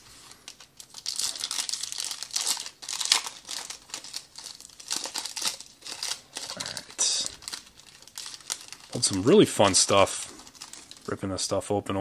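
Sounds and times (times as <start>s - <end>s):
foil wrapper tearing and crinkling: 0.4s - 11.2s.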